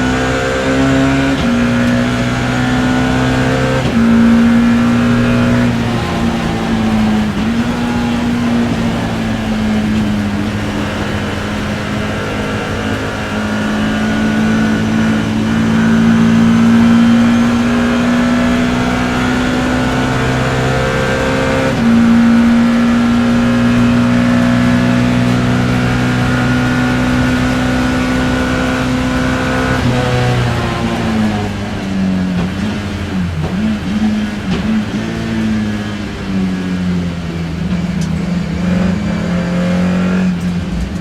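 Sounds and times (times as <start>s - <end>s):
racing car engine at high revs: 0.0s - 41.0s.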